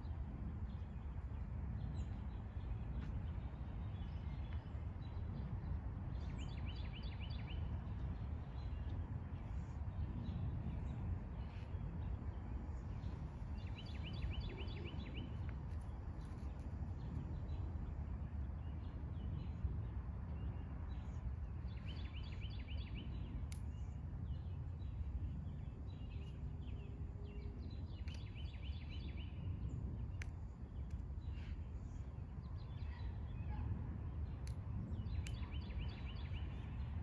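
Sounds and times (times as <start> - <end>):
low outdoor rumble: 0.0 - 37.0
songbird singing: 0.0 - 37.0.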